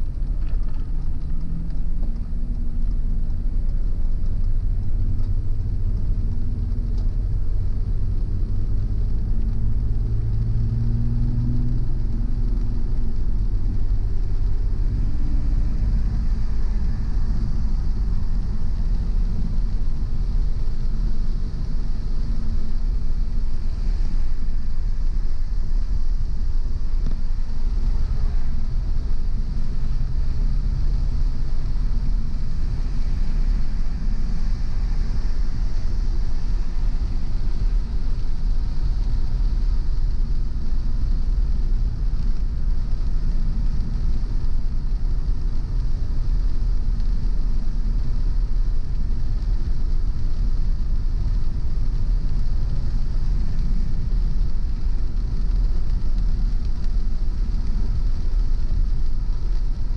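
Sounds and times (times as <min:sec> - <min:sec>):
car road and engine rumble: 0:00.0 - 0:59.9
light hiss: 0:00.0 - 0:59.9.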